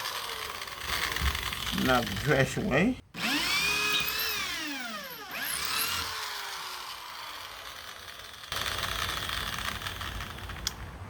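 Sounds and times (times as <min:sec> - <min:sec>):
power drill motor whine: 0:00.0 - 0:02.2, 0:03.2 - 0:10.7.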